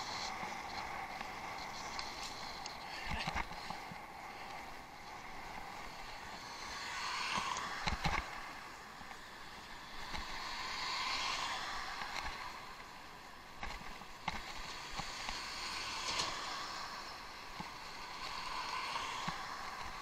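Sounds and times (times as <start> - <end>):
bicycle tyres hissing: 0.0 - 13.2, 14.4 - 20.0.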